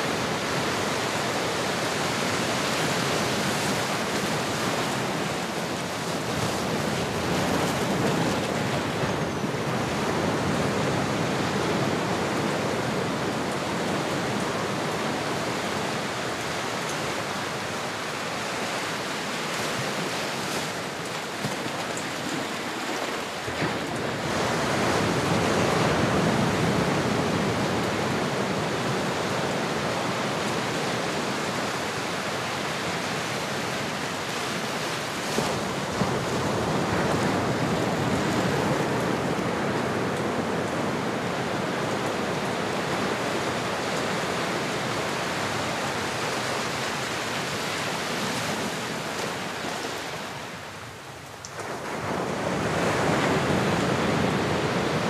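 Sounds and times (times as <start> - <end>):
ocean waves washing on shore: 0.0 - 55.0.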